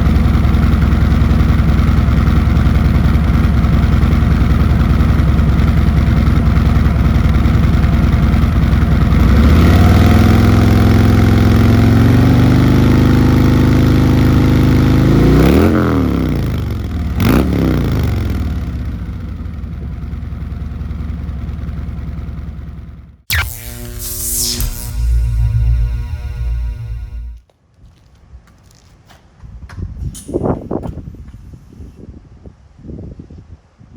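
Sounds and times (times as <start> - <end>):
motorcycle engine idling and revving: 0.0 - 27.4.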